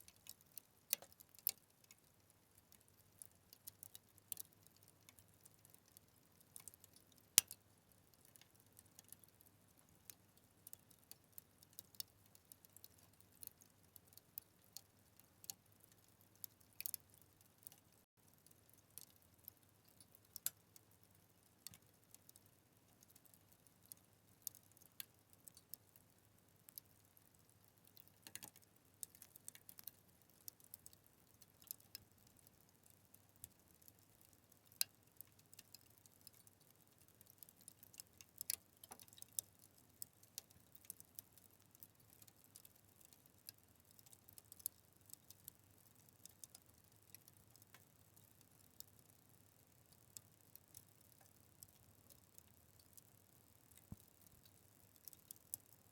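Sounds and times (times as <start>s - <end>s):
faint background hiss: 0.0s - 55.9s
wood fire crackling: 0.0s - 55.9s.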